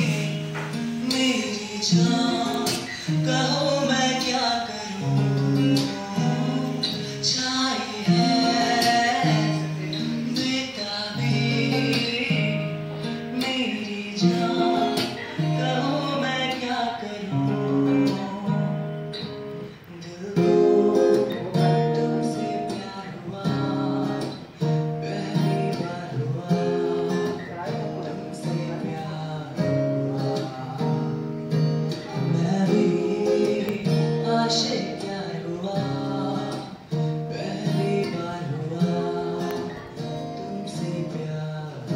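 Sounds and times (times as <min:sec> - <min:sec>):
guitar playing repeating chords: 0:00.0 - 0:41.9
man singing into a microphone: 0:00.0 - 0:41.9.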